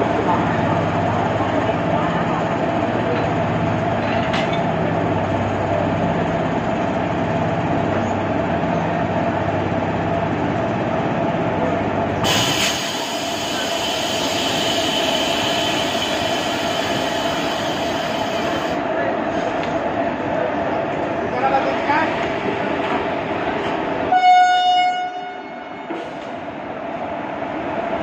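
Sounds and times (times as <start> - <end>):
locomotive mechanical hum: 0.0 - 24.2.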